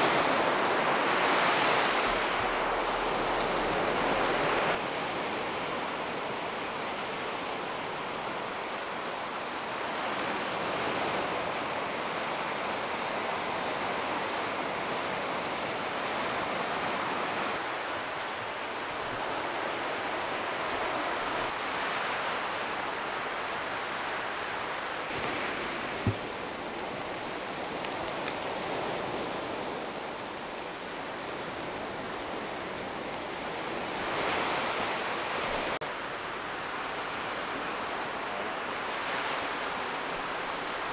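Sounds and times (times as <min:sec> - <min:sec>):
sea surf washing ashore: 0:00.0 - 0:40.9.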